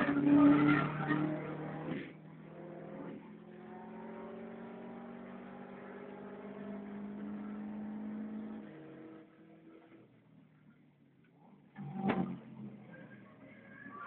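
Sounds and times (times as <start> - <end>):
car engine heard from cabin: 0.0 - 14.0.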